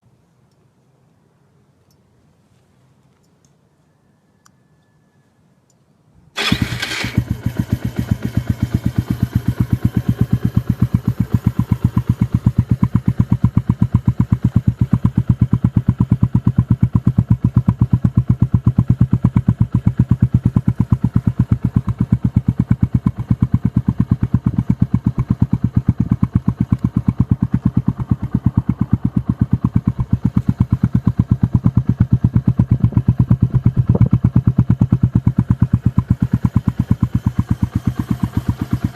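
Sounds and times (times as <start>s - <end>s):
motorcycle engine starting and idling: 6.4s - 38.9s.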